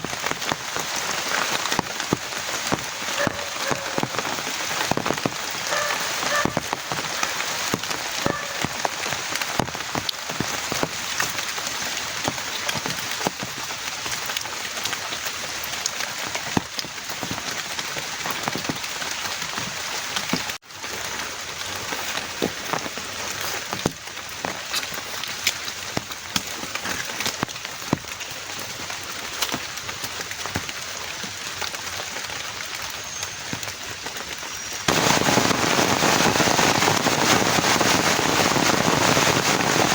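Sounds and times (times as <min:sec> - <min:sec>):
heavy rain: 0:00.0 - 0:39.9
raindrops striking close by: 0:00.0 - 0:39.9.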